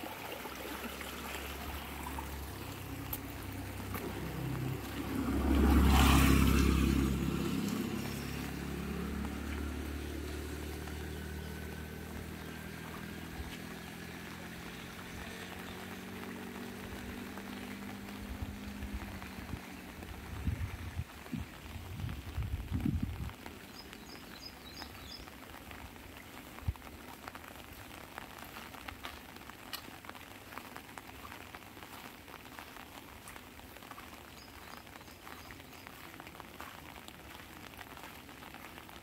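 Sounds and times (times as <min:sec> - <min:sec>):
vehicle passing on wet road: 0:00.0 - 0:39.0.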